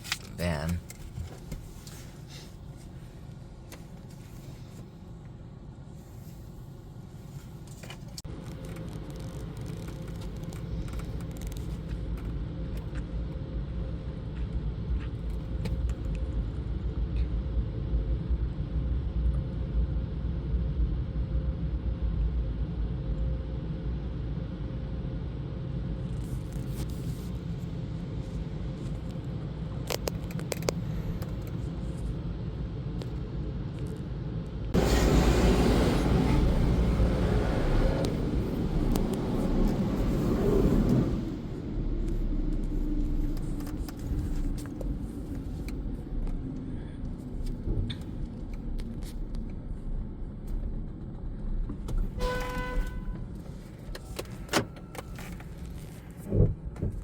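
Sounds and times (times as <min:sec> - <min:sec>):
low rumble inside car wash: 0:00.0 - 0:57.0.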